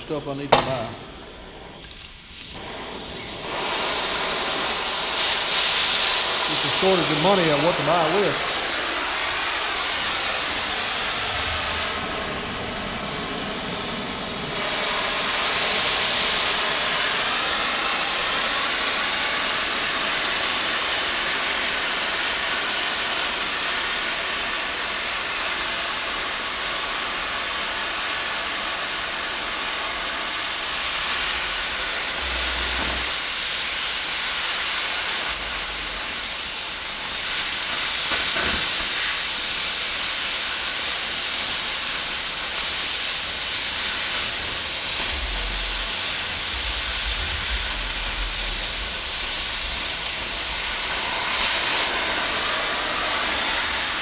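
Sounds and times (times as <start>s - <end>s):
loud hissing of steel cutting: 0.0s - 54.0s.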